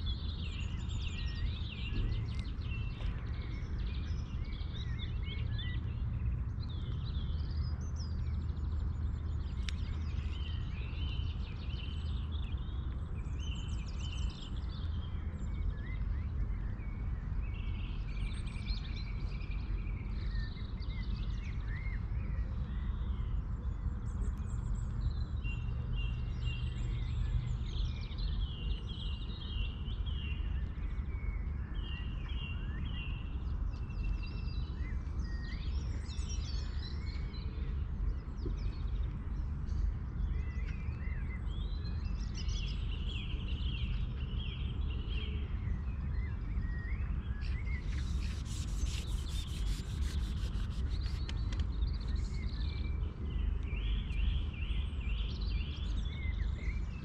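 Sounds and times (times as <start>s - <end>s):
songbirds chirping and warbling: 0.0s - 57.0s.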